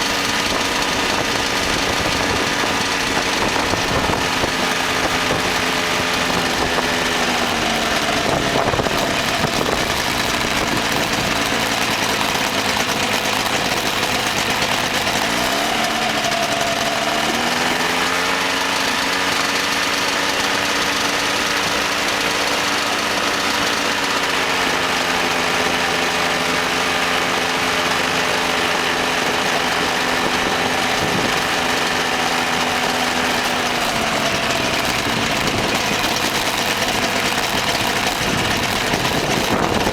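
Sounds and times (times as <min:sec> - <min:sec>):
ultralight aircraft engine and propeller: 0:00.0 - 0:39.9.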